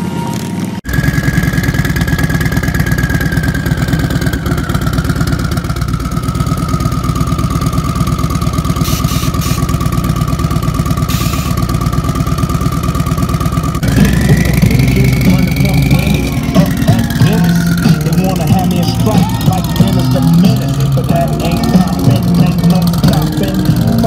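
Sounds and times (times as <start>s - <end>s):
high-pitched squeal: 0.0s - 7.5s, 8.8s - 10.0s, 11.0s - 11.8s, 13.8s - 24.0s
motorcycle engine revving: 0.0s - 24.0s.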